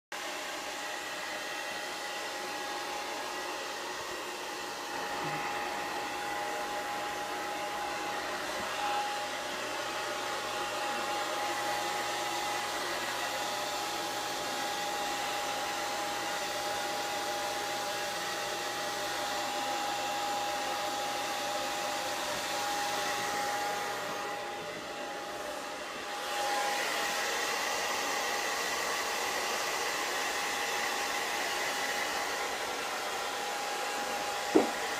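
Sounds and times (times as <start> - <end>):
hair dryer blowing with whine: 0.2 - 34.9.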